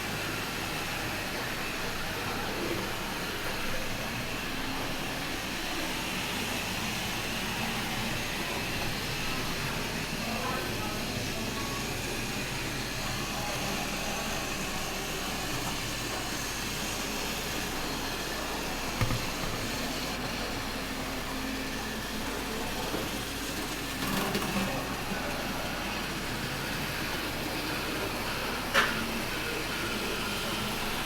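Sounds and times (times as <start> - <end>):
mechanical whirring hum: 0.0 - 31.0.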